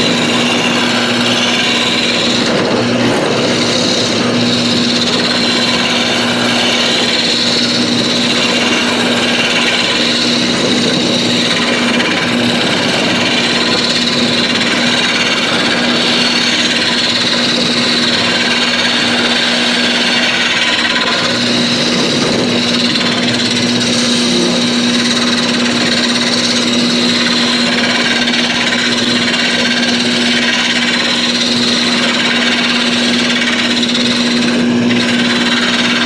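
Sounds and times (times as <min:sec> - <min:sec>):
lathe motor hum: 0:00.0 - 0:36.0
tool scraping spinning wood: 0:00.0 - 0:36.0.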